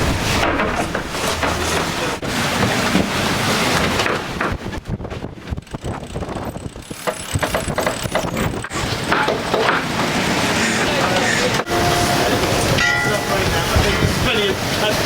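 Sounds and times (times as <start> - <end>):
rush of wind and water: 0.0 - 15.0.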